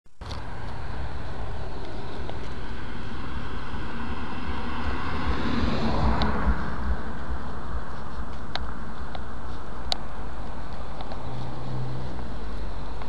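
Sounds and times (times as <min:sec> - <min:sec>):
steady outdoor noise: 0:00.1 - 0:13.0
vehicle passing: 0:00.2 - 0:13.0
wind on microphone: 0:00.4 - 0:13.0.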